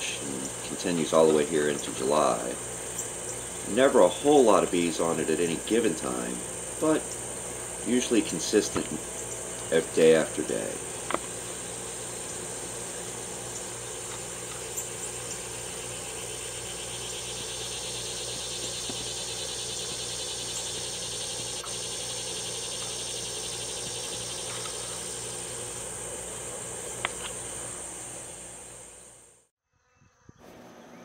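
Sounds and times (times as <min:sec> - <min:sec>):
low steady hum: 0:00.0 - 0:29.4
insects trilling: 0:00.0 - 0:30.4.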